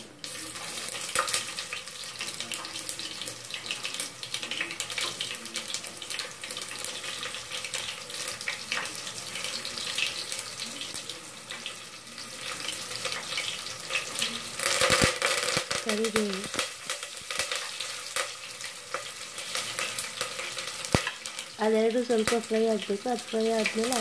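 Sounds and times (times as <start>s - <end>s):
onion and spices sizzling in oil: 0.0s - 24.0s.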